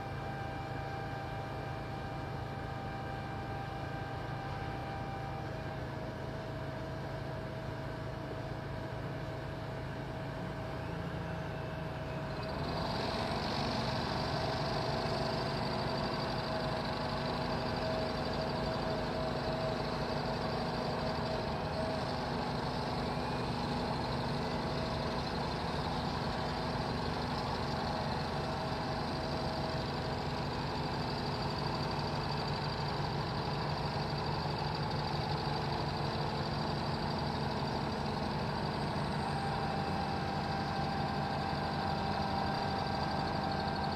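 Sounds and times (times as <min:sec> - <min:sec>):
construction machine engine: 0:00.0 - 0:43.9.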